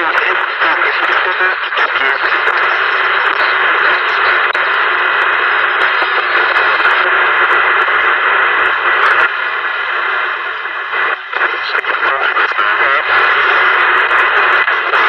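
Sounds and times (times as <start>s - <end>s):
faint crackles: 0.0s - 15.0s
radio static hiss: 0.0s - 15.0s.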